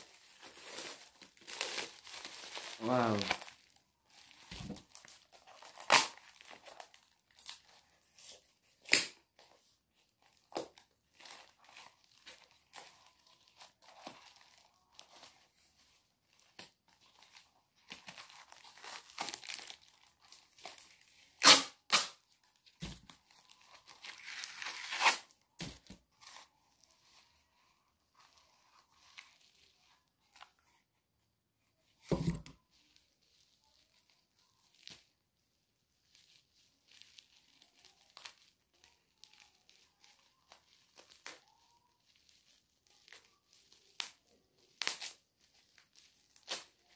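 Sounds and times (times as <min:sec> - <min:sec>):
wrapping tearing: 0:00.0 - 0:25.6, 0:32.8 - 0:46.9
wrapping ripping: 0:00.0 - 0:30.6, 0:32.8 - 0:46.9
wrapping rustling and crinkling: 0:00.0 - 0:46.9.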